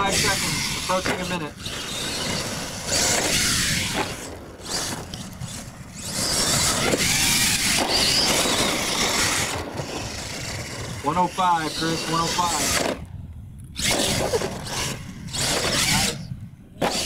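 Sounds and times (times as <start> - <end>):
toy truck motor whining: 0.0 - 13.0, 13.7 - 17.0.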